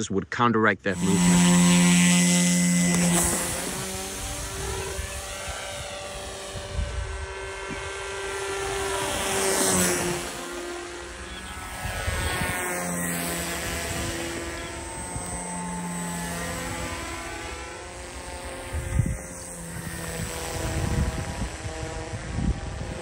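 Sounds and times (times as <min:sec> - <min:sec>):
model plane motor and propeller: 0:00.9 - 0:23.0.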